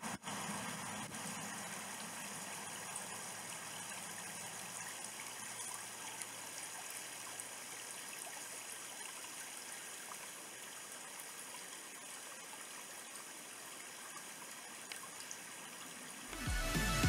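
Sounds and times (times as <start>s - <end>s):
stream trickling over stones: 0.0s - 16.4s.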